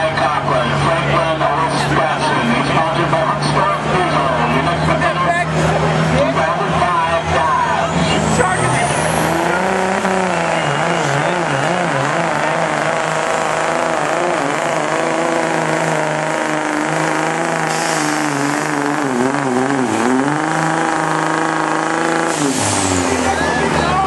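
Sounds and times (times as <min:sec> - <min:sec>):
diesel engine at full throttle: 0:00.0 - 0:24.0.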